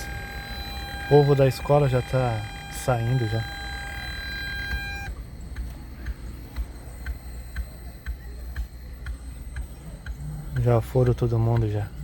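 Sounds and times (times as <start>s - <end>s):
high electronic tone: 0.0s - 10.0s
steady ticking: 0.0s - 12.0s.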